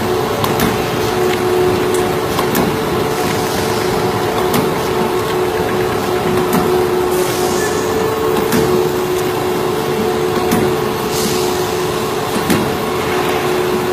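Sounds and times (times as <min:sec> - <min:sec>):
punch machine humming: 0:00.0 - 0:13.9.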